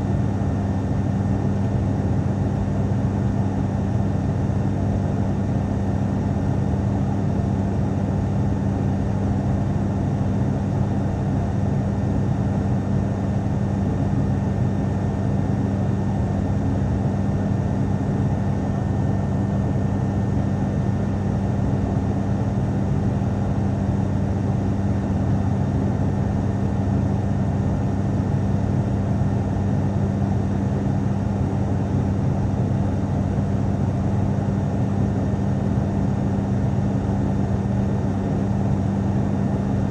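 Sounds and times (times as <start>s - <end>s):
turboprop cabin drone: 0.0s - 39.9s.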